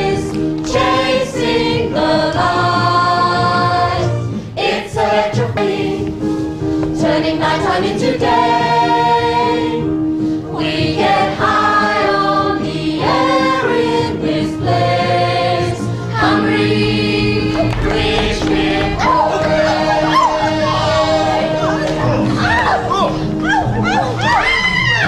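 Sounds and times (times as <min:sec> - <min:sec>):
choir singing long held notes: 0:00.0 - 0:06.4, 0:07.0 - 0:24.3
low musical accompaniment: 0:00.0 - 0:25.0.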